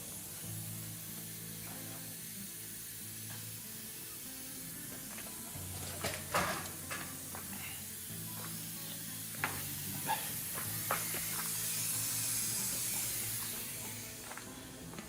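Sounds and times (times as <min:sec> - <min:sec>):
background music with low notes: 0:00.0 - 0:15.0
steady high hiss: 0:00.0 - 0:15.0.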